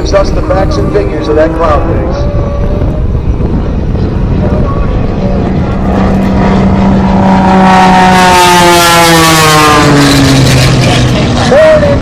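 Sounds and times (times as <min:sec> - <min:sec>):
propeller plane passing: 0:00.0 - 0:12.0.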